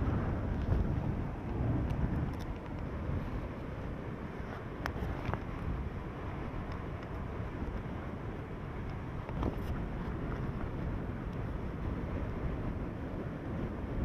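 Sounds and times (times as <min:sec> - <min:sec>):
strong wind on microphone: 0:00.0 - 0:14.0.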